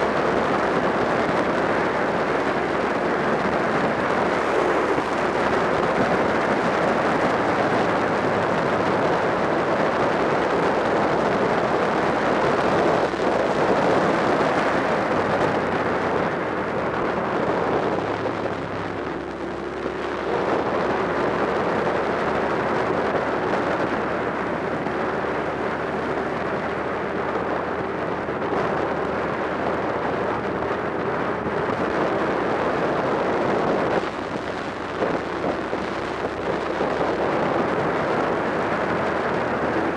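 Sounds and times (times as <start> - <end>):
motorcycle engine running: 0.0 - 39.9
road noise: 0.0 - 39.9
wind rush: 0.0 - 39.9.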